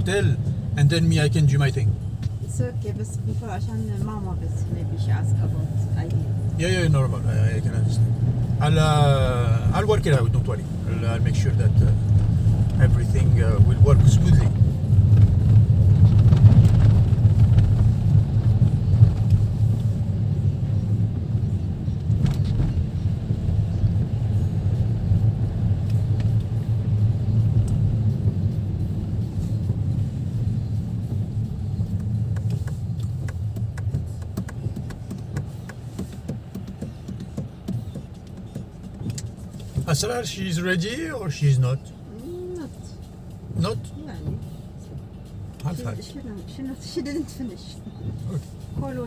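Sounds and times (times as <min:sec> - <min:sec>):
car cabin road noise: 0:00.0 - 0:49.0.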